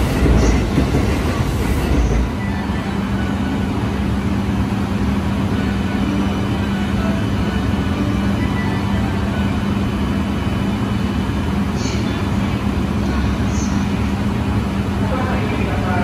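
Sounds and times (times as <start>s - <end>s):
standing train humming: 0.0s - 16.0s
train wheel rumble: 0.0s - 16.0s.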